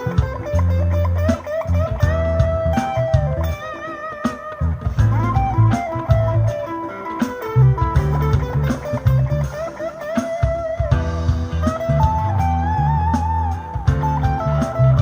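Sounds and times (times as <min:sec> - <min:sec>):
overdriven electric guitar lead: 0:00.0 - 0:15.0.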